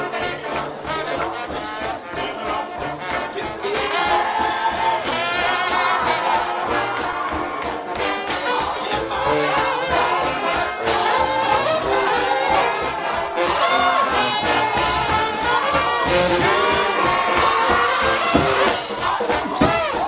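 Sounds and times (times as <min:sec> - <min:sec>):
drums keeping the beat: 0:00.0 - 0:20.0
trombones playing in harmony: 0:00.0 - 0:20.0.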